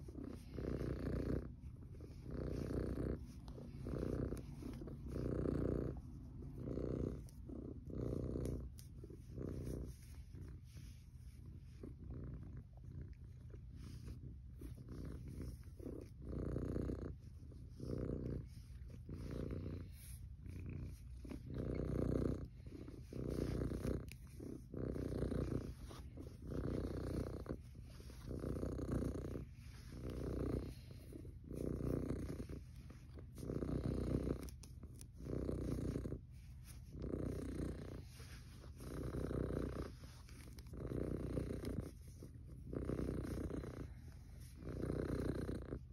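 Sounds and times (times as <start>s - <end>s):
cat purring: 0.0s - 45.9s.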